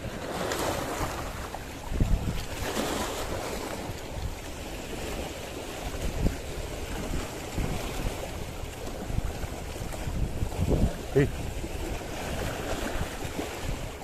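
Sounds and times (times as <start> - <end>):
waves splashing against rocks: 0.0 - 14.0
wind buffeting microphone: 0.0 - 14.0.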